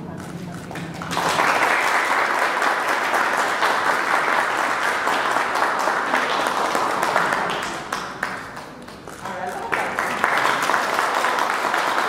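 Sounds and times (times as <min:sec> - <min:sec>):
crowd applauding: 0:00.7 - 0:12.0.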